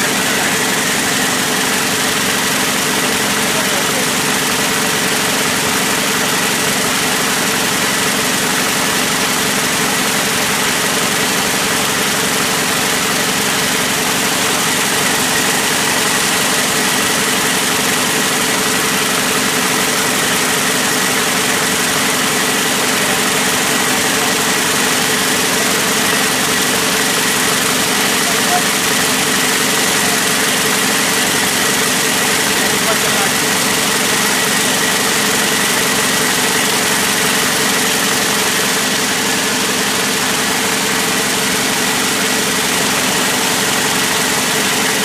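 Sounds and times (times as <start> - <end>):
braiding machines running: 0.0 - 45.0.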